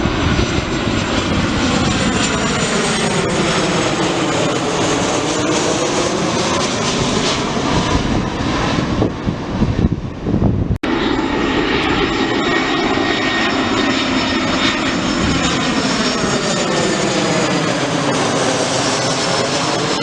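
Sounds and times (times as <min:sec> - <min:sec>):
airliner flying low overhead: 0:00.0 - 0:20.0.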